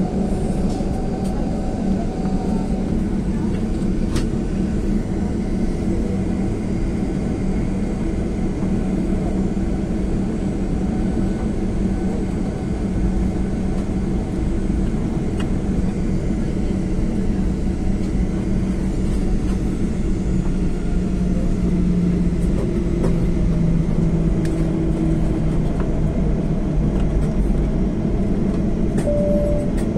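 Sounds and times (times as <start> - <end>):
jet airliner cabin drone: 0.0 - 29.9.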